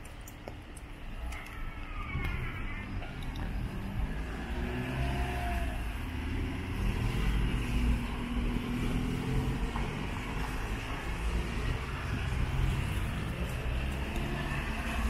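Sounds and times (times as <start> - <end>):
wet road noise: 0.0 - 15.0.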